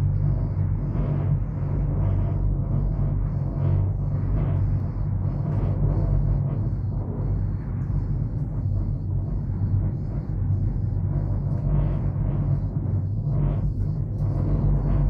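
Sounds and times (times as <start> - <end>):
cable car cabin rumble: 0.0 - 15.0.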